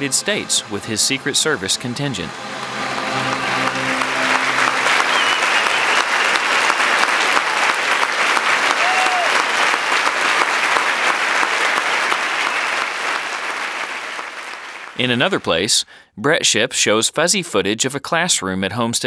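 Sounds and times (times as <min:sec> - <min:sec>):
audience applause: 0:00.0 - 0:15.7.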